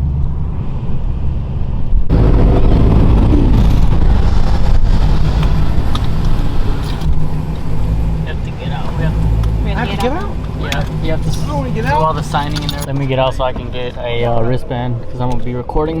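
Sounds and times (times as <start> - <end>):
car engine idling: 0.0 - 16.0
deep engine rumble: 0.0 - 16.0.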